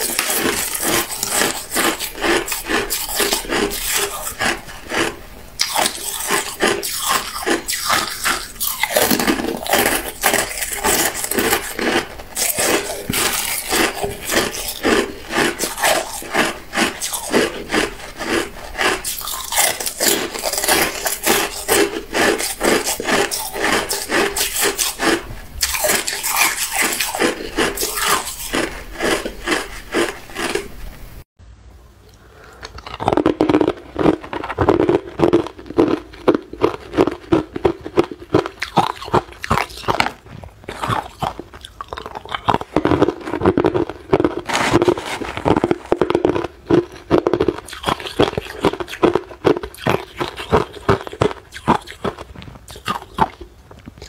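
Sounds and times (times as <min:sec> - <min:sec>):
ice being chewed: 0:00.0 - 0:31.1, 0:32.1 - 0:54.0.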